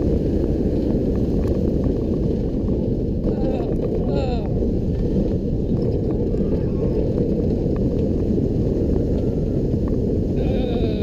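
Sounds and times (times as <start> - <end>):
wind and track rumble: 0.0 - 11.0.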